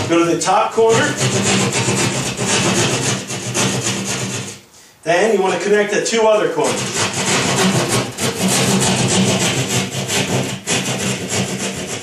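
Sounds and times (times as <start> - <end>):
keyhole saw cutting drywall: 0.0 - 4.6, 6.6 - 12.0.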